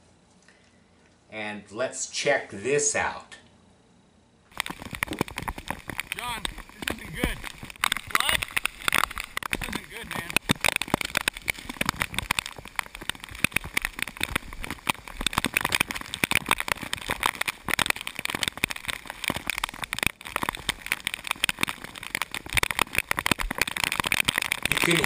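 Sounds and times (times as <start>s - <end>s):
heavy rain pattering: 4.5s - 25.0s.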